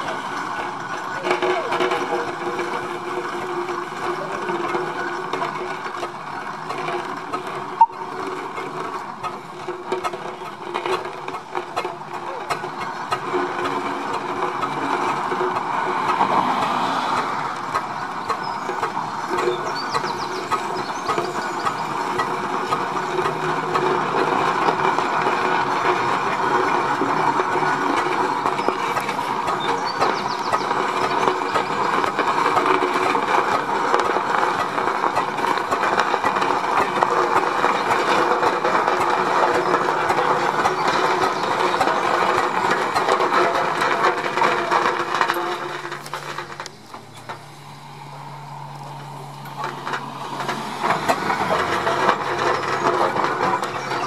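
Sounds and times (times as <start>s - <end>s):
steam roller clattering over gravel: 0.0s - 54.0s.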